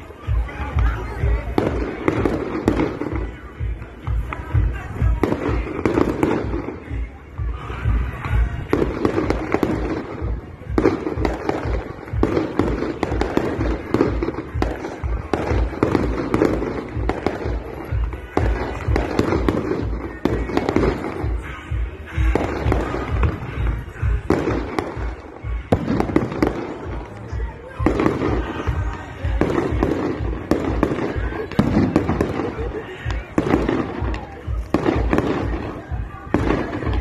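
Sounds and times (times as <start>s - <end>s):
fireworks bangs and crackles: 0.0s - 37.0s
music playing: 0.0s - 37.0s.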